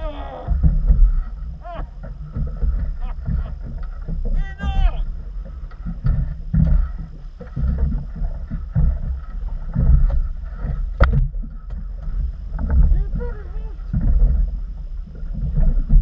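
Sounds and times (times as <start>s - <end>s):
water slapping against boat: 0.0s - 16.0s
wind buffeting microphone: 0.0s - 16.0s.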